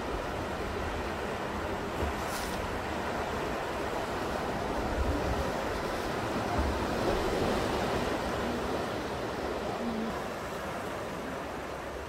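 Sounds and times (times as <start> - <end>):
sea surf washing over rocks: 0.0 - 12.0.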